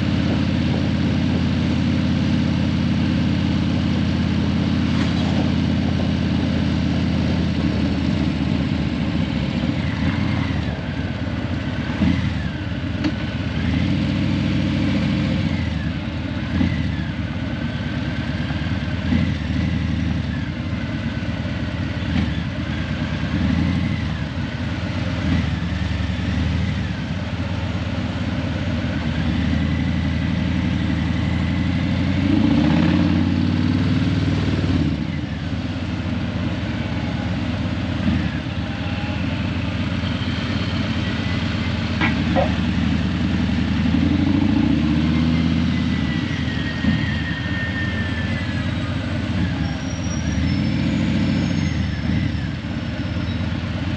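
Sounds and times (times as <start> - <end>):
motorcycle exhaust rumbling: 0.0 - 53.9.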